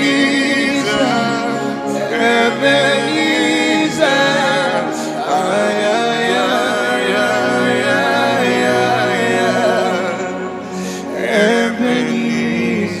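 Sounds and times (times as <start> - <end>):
voices singing gospel chant: 0.0 - 13.0.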